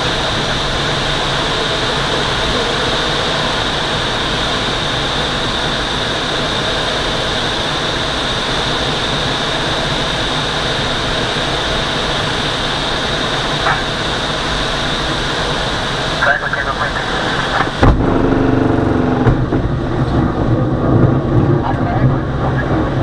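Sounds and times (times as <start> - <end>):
rushing airflow over glider canopy: 0.0 - 23.0.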